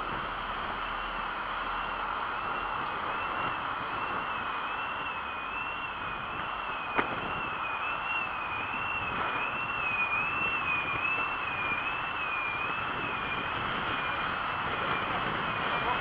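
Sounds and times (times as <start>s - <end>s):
bike wavering whine: 0.0s - 16.0s
tyre and wind hiss: 0.0s - 16.0s.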